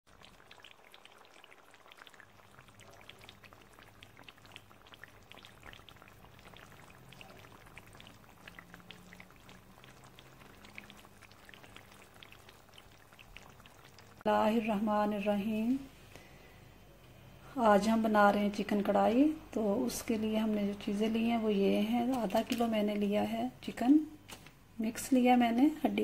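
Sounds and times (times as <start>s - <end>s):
faint crackling and popping: 0.0s - 17.2s, 18.4s - 26.0s
low steady hum: 0.1s - 26.0s.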